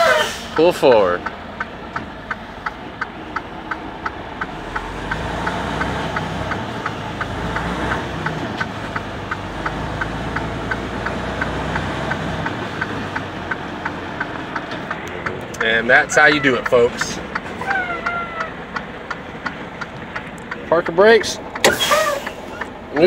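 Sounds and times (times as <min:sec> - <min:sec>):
truck diesel engine rumbling: 0:00.0 - 0:23.0
fast even clicking: 0:00.6 - 0:23.0.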